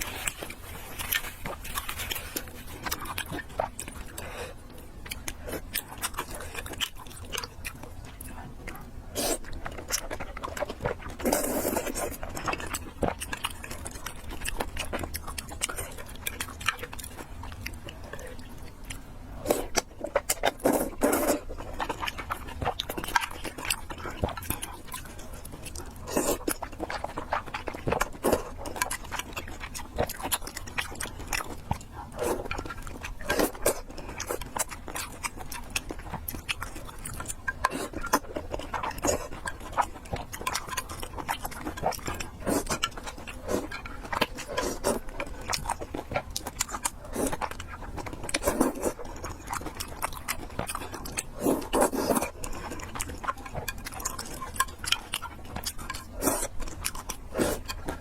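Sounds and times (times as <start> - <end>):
person chewing noodles: 0.0 - 58.0.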